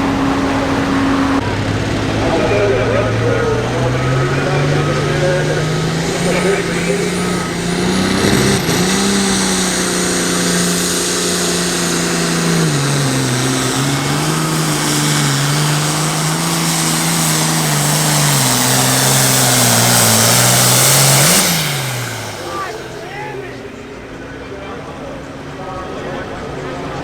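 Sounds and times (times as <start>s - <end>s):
diesel tractor engine under load: 0.0s - 24.2s.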